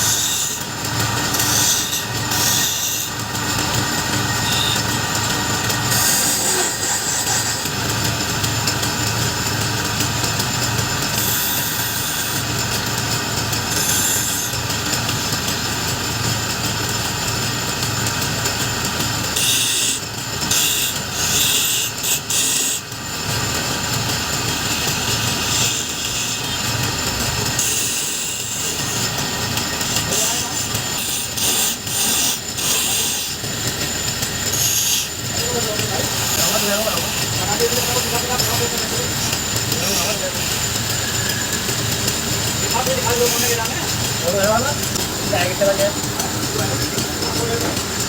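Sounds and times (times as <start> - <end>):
turning tool scraping wood: 0.0 - 18.2, 19.0 - 48.0
wood lathe running: 0.0 - 48.0.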